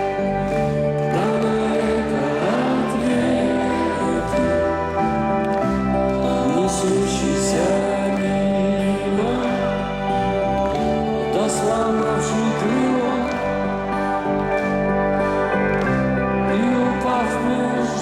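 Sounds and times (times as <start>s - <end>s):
rock band playing slow instrumental: 0.0s - 18.0s.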